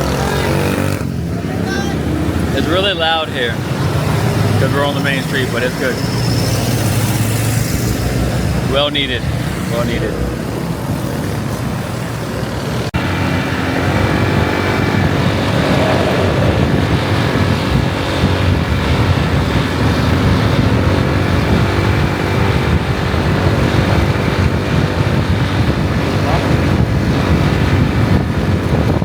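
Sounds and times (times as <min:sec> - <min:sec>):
road noise: 0:00.0 - 0:29.0
vehicle engine running: 0:00.0 - 0:29.0.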